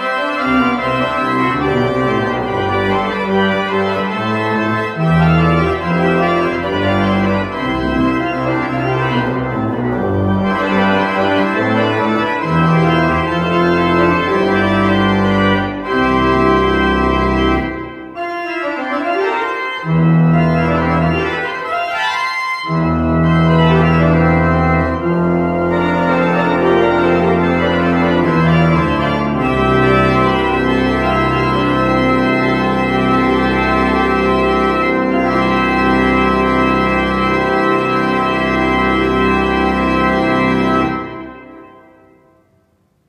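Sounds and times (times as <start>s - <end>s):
church organ chords: 0.0s - 42.8s.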